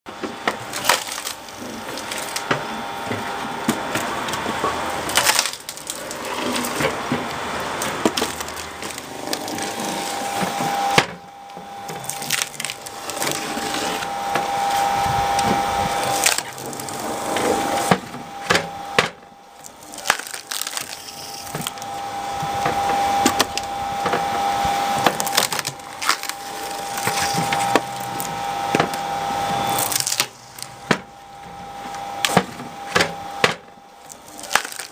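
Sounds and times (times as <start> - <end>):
log splitter motor hum: 0.1 - 34.9
wood creaking and cracking: 0.3 - 31.1, 32.2 - 34.9.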